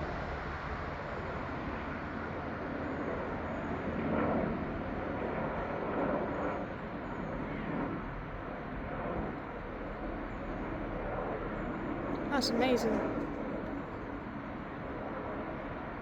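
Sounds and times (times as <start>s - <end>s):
helicopter flying past: 0.0s - 16.0s.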